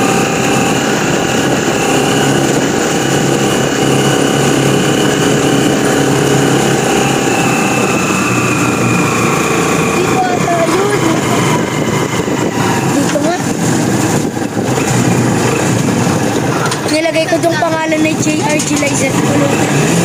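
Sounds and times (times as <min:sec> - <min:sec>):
road noise: 0:00.0 - 0:20.0
vehicle engine running steadily: 0:00.0 - 0:20.0.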